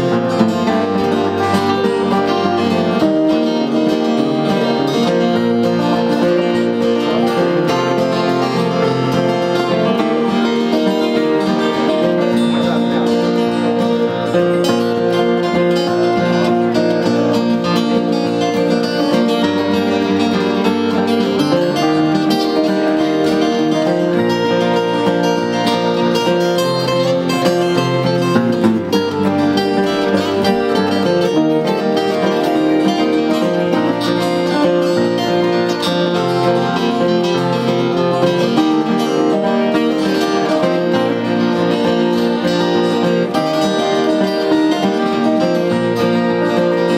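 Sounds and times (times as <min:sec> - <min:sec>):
acoustic guitars strumming chords: 0:00.0 - 0:46.9.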